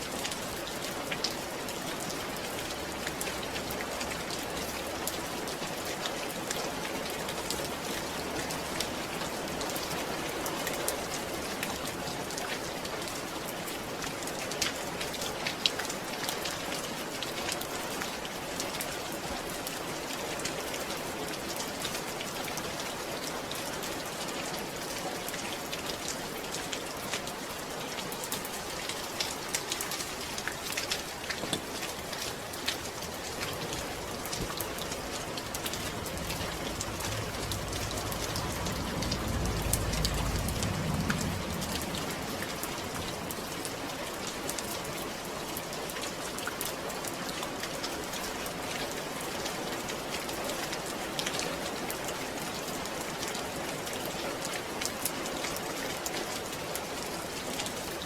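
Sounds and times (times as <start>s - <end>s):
rain falling: 0.0s - 58.0s
raindrops ticking on surfaces: 0.0s - 58.0s.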